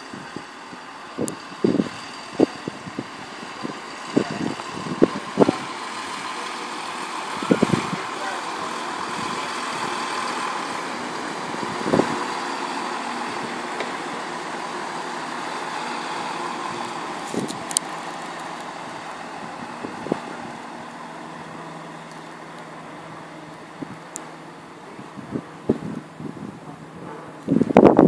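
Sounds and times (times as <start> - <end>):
train rumble and hum: 0.0 - 28.0.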